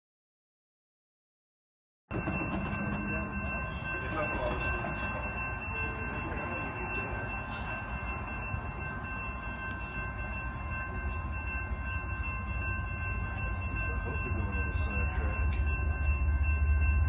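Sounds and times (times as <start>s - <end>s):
distant train rumble and hiss: 2.1s - 17.0s.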